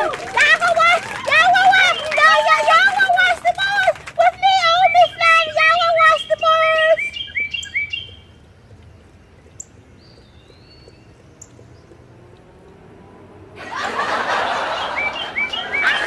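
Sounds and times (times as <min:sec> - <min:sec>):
small birds chirping: 0:00.0 - 0:13.6, 0:14.8 - 0:16.0.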